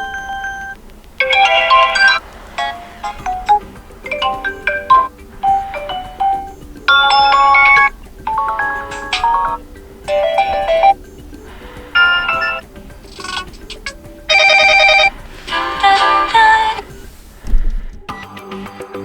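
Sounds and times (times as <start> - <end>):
electronic ringtone melody: 0.0 - 17.0.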